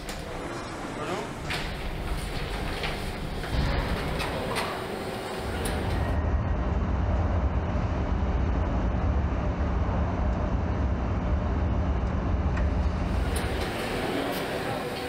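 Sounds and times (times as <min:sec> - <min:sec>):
low machinery rumble: 0:00.0 - 0:15.0.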